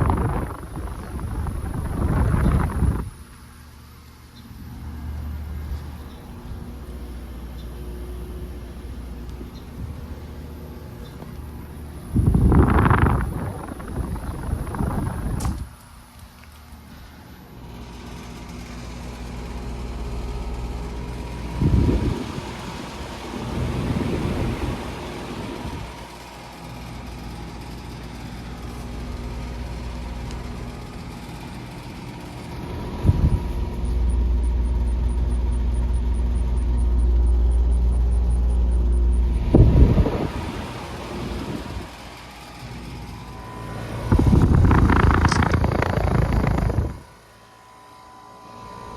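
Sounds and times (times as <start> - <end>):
compressor hum: 0.0 - 48.9
fan noise: 0.0 - 48.9.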